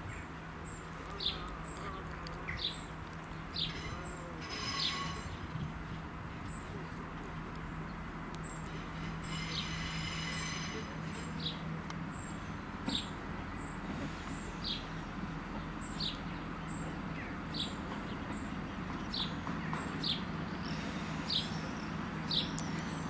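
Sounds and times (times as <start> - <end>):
bird chirping: 0.0 - 23.0
train engines droning: 0.0 - 23.0.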